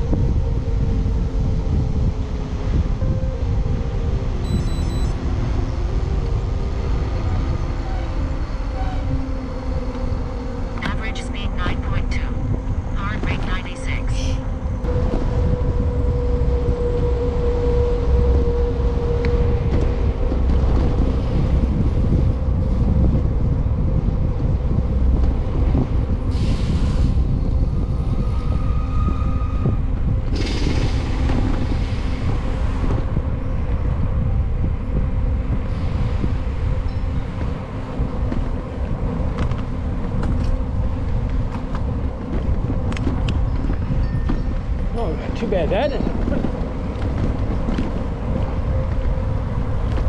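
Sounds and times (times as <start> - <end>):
wind buffeting microphone: 0.0 - 13.6, 14.4 - 50.0.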